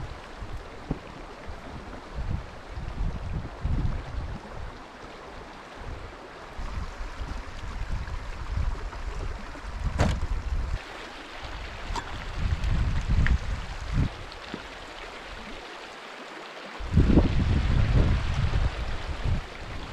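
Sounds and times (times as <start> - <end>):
wind gusting across microphone: 0.0 - 10.9, 11.5 - 15.5, 16.8 - 19.9.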